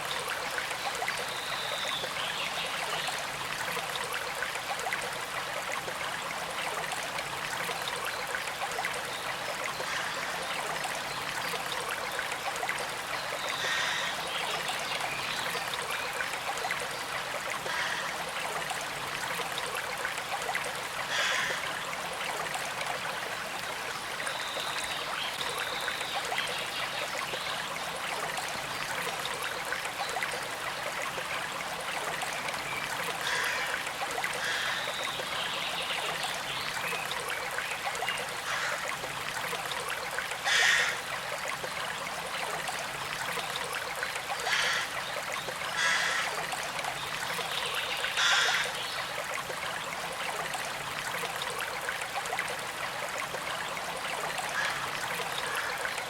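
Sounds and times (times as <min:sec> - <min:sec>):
creek flowing and trickling: 0:00.0 - 0:56.0
water gurgles and splashes: 0:02.9 - 0:56.0.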